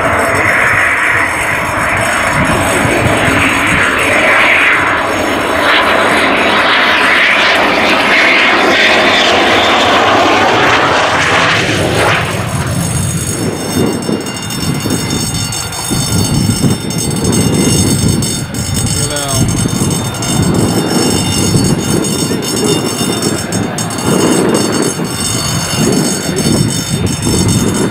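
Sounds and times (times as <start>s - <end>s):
jet engine noise with high whine: 0.0s - 27.9s.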